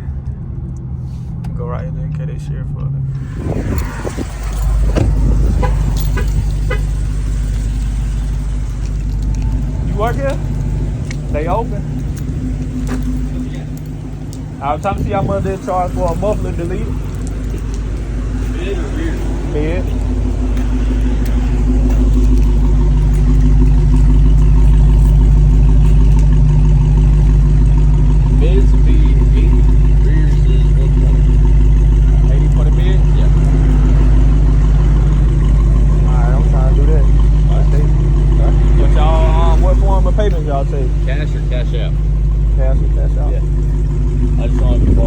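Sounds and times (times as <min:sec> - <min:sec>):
car engine rumbling: 0:00.0 - 0:45.0.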